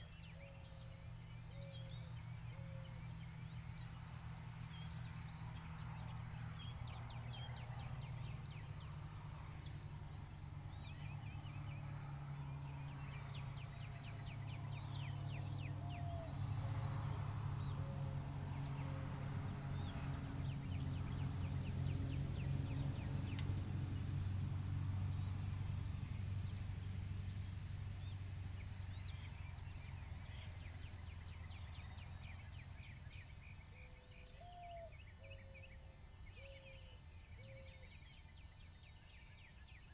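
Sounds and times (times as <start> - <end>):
low steady rumble: 0.0 - 39.9
songbirds chirping: 0.0 - 39.9.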